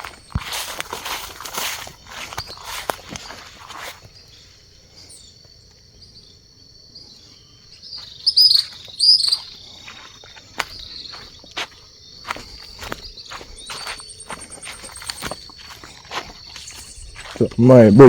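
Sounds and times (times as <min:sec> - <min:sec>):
footsteps rustling through vegetation: 0:00.0 - 0:05.1, 0:07.8 - 0:18.0
high-pitched insect trill: 0:00.0 - 0:18.0
loud bird calls: 0:00.0 - 0:18.0.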